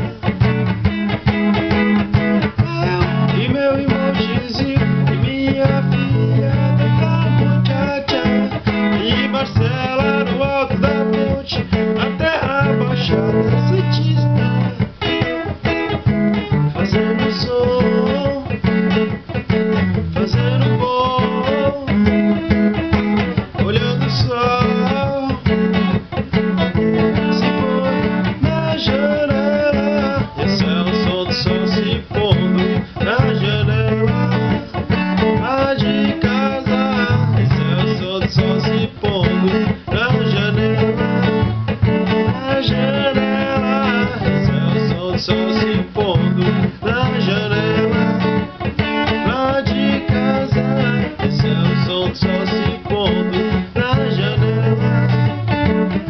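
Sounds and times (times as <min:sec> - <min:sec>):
electric guitar with bending notes: 0:00.0 - 0:56.0.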